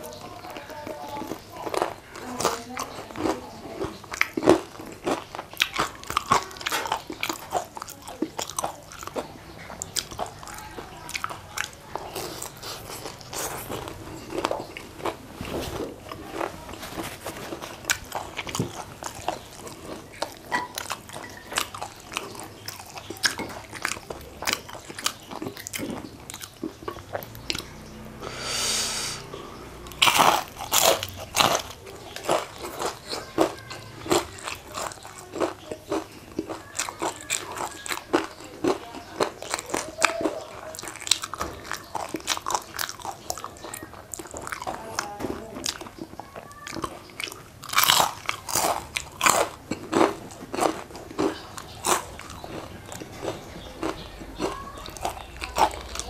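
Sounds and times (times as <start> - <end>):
crunching crispy fried food: 0.0 - 56.0.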